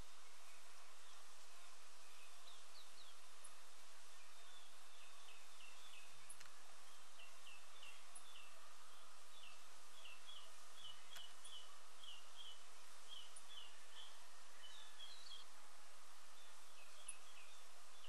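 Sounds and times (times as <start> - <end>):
small bird chirping: 0.0 - 15.5.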